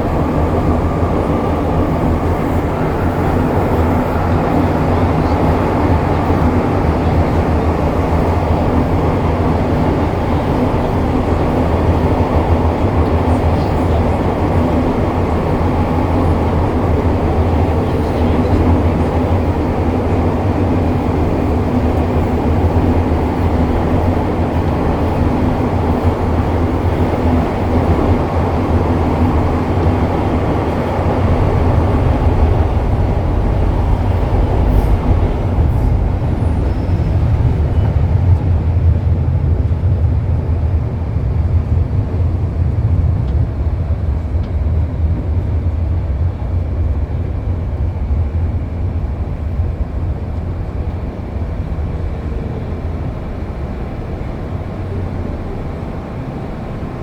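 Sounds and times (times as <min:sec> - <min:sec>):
train wheels and motors rumbling: 0:00.0 - 0:57.0.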